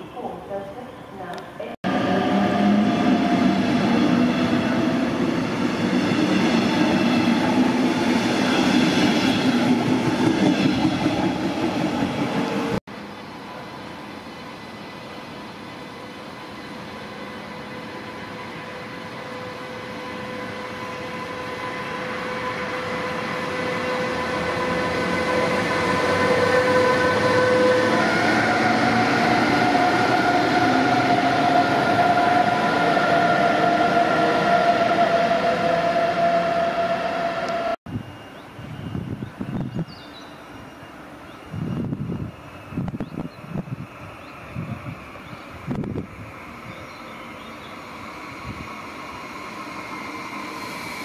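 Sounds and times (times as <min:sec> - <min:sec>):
train rolling past: 0:01.6 - 0:51.0
train whining tones: 0:01.8 - 0:51.0.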